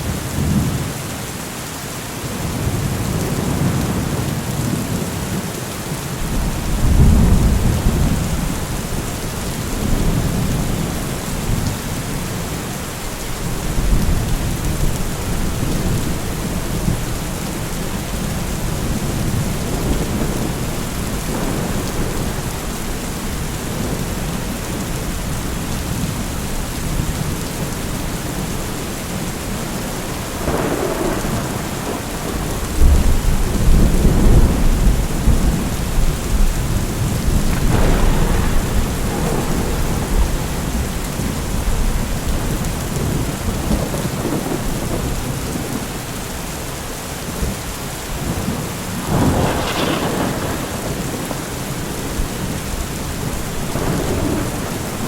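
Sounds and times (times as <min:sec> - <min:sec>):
heavy rain: 0:00.0 - 0:55.0
rolling thunder: 0:06.2 - 0:12.7, 0:13.3 - 0:46.1, 0:47.4 - 0:55.0.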